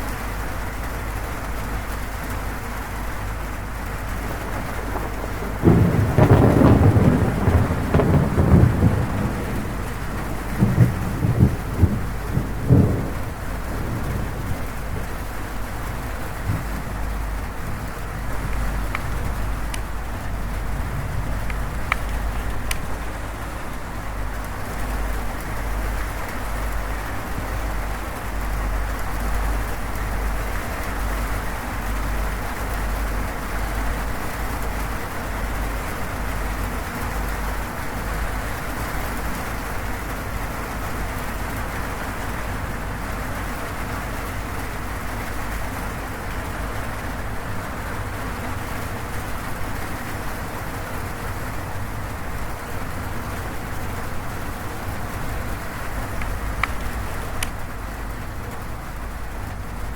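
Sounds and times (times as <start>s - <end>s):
rain on a metal roof: 0.0s - 59.9s.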